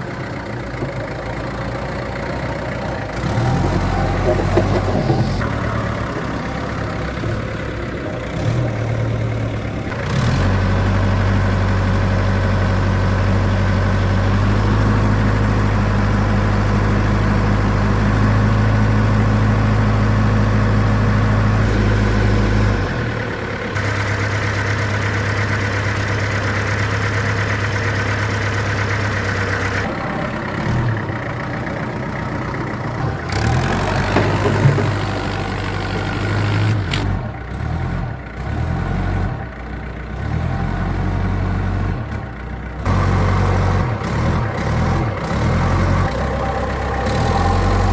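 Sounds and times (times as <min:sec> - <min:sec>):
truck engine humming: 0:00.0 - 0:47.9.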